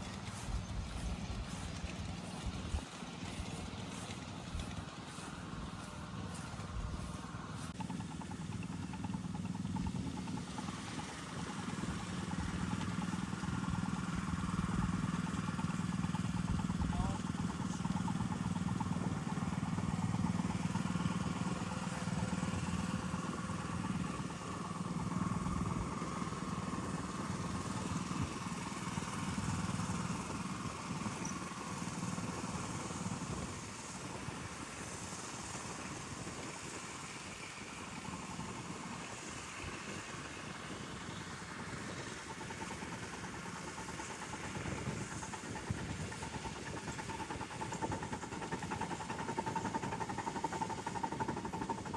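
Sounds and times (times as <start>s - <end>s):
miniature train running on track: 0.0s - 51.9s.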